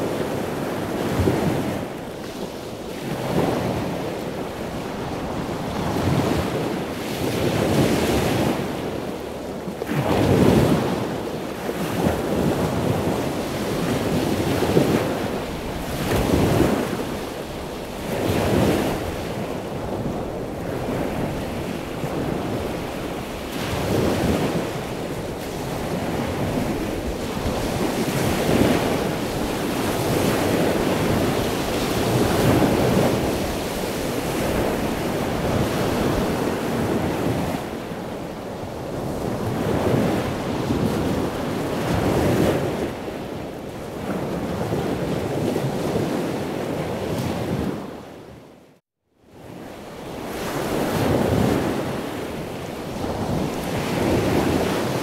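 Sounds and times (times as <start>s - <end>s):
ocean waves breaking: 0.0s - 48.1s, 49.4s - 55.0s.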